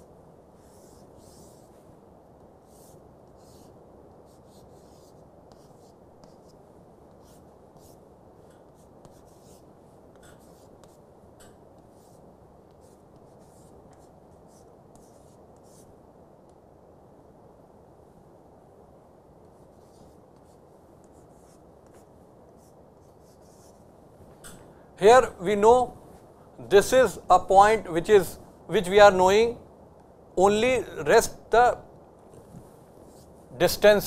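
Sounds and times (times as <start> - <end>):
low room noise: 0.0 - 34.0.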